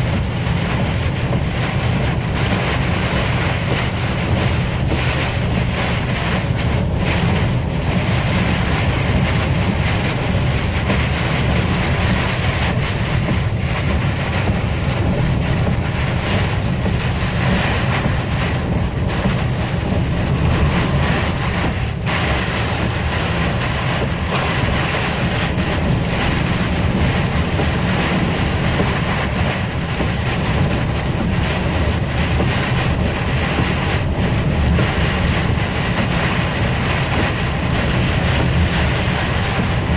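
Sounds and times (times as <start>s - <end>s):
vehicle road noise: 0.0s - 39.9s
wind: 0.0s - 39.9s.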